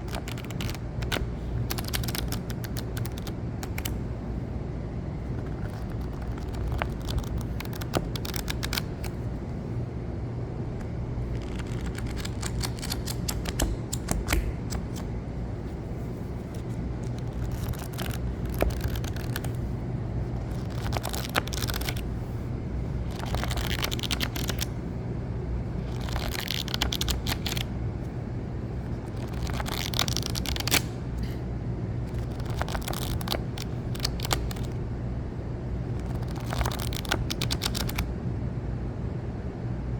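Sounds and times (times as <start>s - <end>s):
book pages being flipped: 0.0s - 4.1s, 5.2s - 9.6s, 10.8s - 24.8s, 25.7s - 31.0s, 32.1s - 34.8s, 35.8s - 38.1s
steady low hum: 0.0s - 39.9s.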